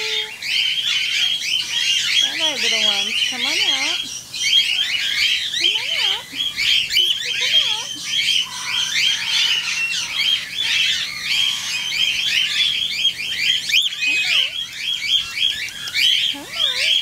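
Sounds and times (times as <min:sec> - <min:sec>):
cockatiels calling: 0:00.0 - 0:17.0.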